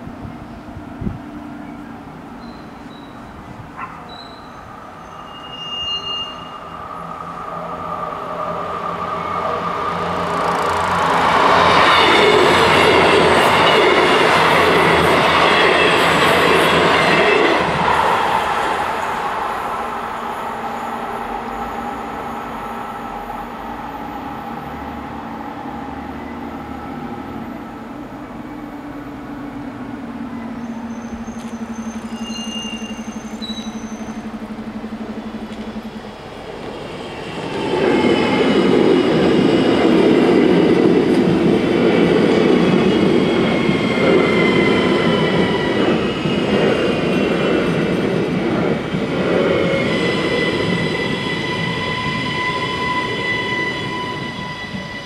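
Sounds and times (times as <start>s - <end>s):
high train whine: 0.0s - 55.0s
train wheels rumbling on rail: 0.0s - 55.0s.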